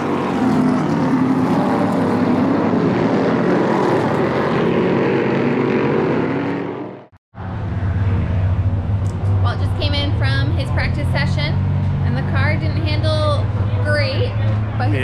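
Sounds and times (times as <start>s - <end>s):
race car engine at speed: 0.0s - 15.0s.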